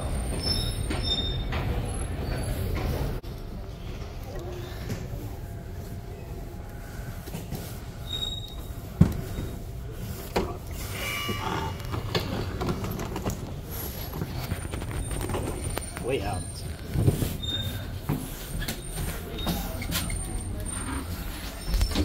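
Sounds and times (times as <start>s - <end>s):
lift doors squeaking and rattling: 0.0s - 3.2s, 6.8s - 22.0s.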